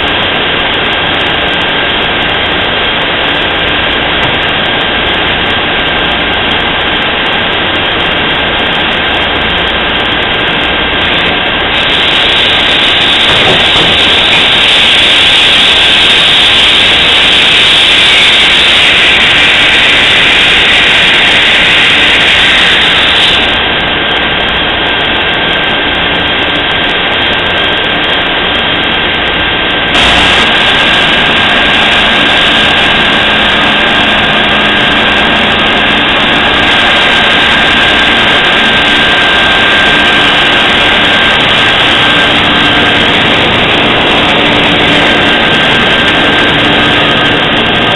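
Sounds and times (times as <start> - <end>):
machining center whine and hum: 0.0 - 47.9.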